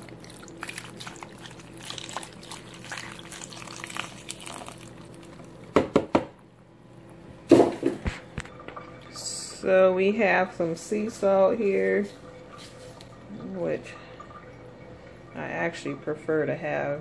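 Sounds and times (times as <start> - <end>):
broth pouring and splashing: 0.0 - 5.7, 7.7 - 9.8, 10.6 - 16.4.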